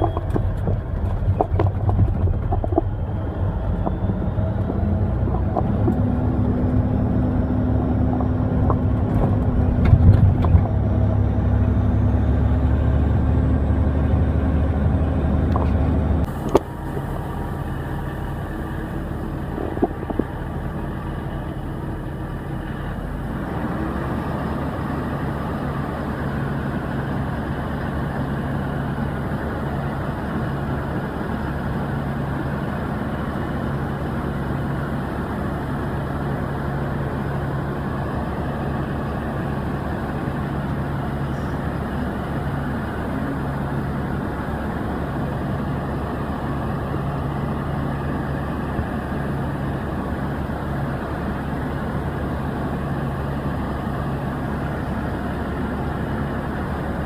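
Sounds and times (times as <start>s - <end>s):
diesel farm machinery drone: 0.0s - 57.0s.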